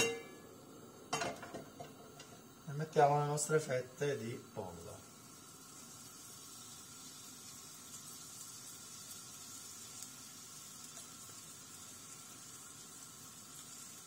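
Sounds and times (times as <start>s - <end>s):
chicken frying in oil: 1.0s - 14.0s.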